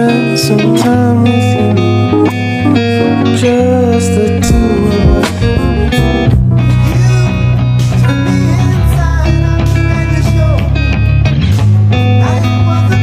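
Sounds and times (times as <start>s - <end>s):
slow song with guitar and bass: 0.0s - 13.0s.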